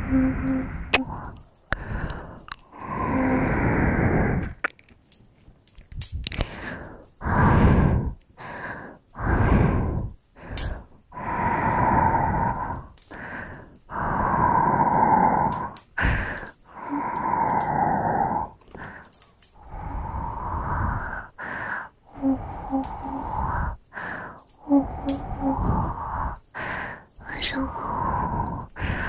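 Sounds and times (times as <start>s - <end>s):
heavy breathing and sighs: 0.0s - 4.7s, 6.3s - 29.0s.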